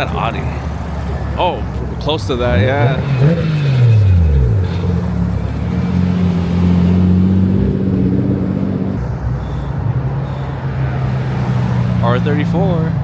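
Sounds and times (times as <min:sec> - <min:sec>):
car engines passing slowly: 0:00.0 - 0:13.0.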